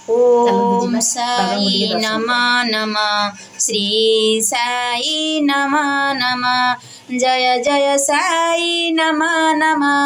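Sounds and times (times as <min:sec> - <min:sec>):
woman singing devotional song: 0:00.0 - 0:10.0.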